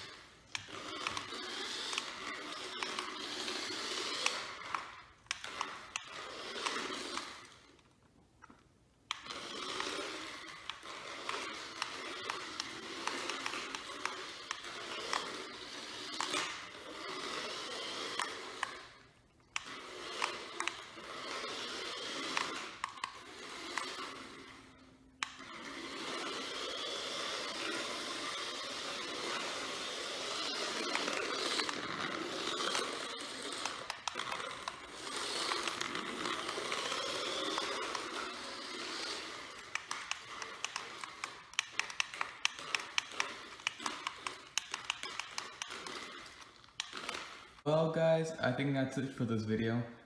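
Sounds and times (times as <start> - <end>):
toy car motor and wheels: 0.0 - 49.8.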